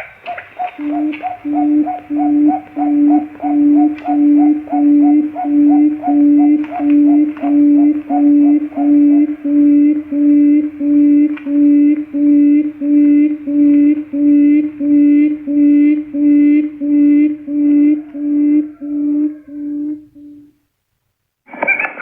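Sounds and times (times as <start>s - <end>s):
quail call hooting: 0.0s - 20.6s.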